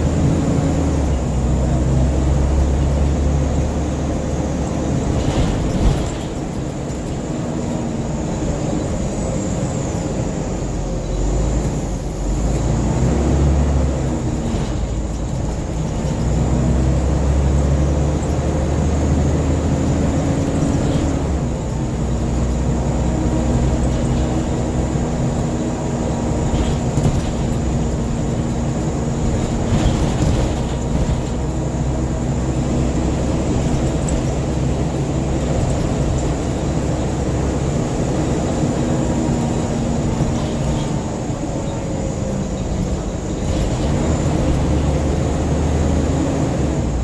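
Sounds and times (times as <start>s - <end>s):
bus diesel engine running: 0.0s - 47.0s
road noise: 0.0s - 47.0s.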